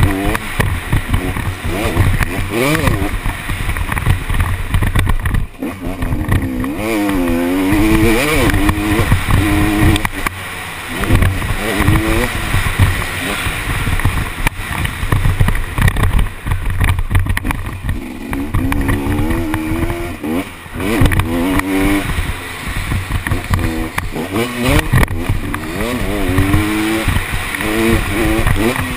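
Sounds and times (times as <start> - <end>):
two-stroke motorcycle engine revving: 0.0 - 28.9.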